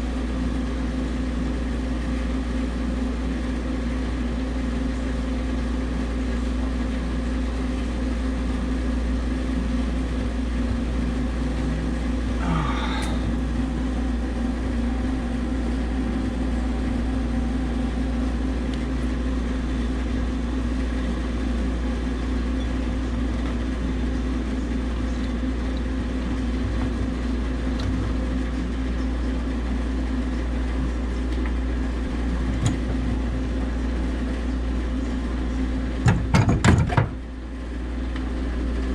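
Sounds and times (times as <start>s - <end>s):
machinery hum: 0.0s - 38.9s.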